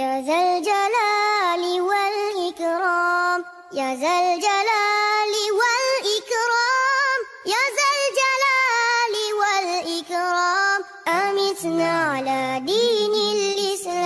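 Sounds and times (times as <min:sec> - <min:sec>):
solo voice singing devotional chant: 0:00.0 - 0:14.0.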